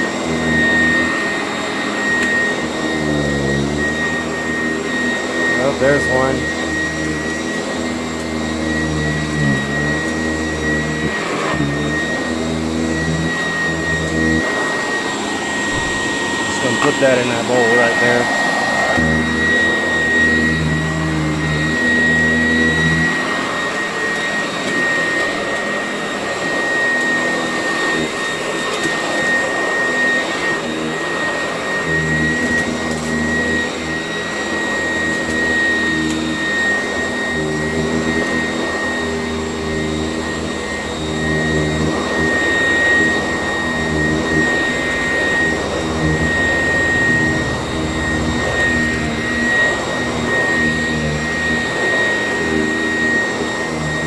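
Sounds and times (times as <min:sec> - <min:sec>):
upright vacuum motor whine: 0:00.0 - 0:54.0.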